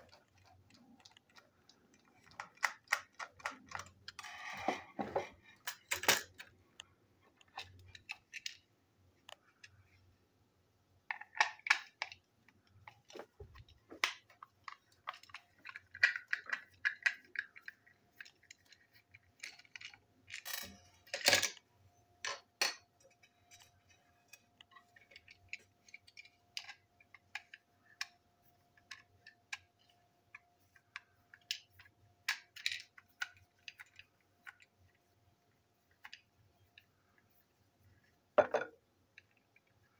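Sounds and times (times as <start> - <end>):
plastic parts clicking and clattering: 0.0 - 6.6, 7.2 - 9.9, 11.0 - 35.0, 35.9 - 37.4.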